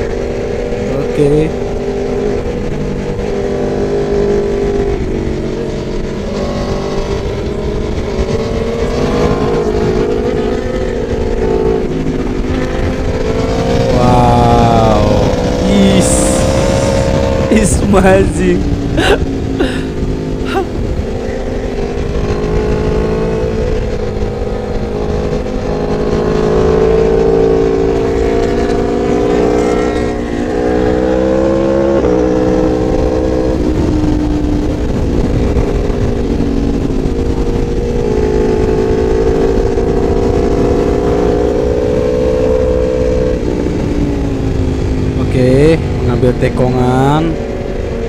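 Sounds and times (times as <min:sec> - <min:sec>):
motorcycle engine at high speed: 0:00.0 - 0:48.0
wind rush: 0:01.7 - 0:41.7.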